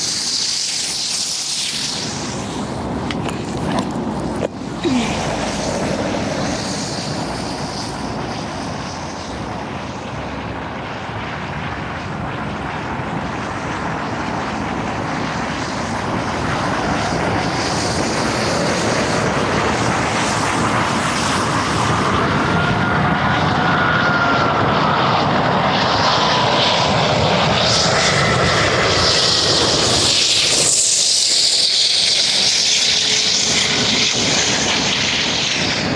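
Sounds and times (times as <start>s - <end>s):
faint jet engine whine: 0.0s - 35.9s
jet airliner rushing drone: 0.0s - 35.9s.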